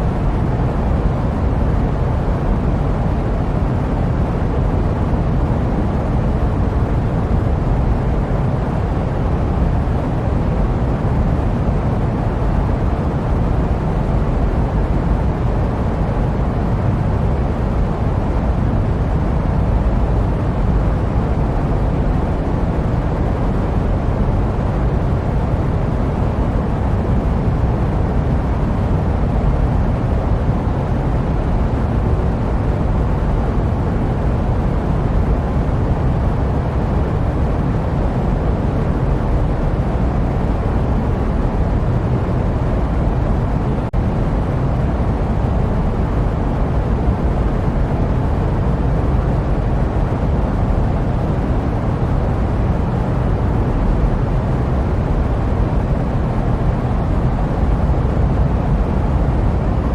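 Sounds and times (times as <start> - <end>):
jet aircraft rumble with hiss: 0.0 - 59.9.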